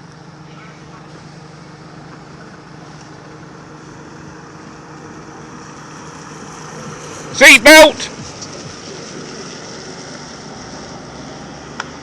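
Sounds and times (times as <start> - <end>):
van engines running: 0.0 - 12.0.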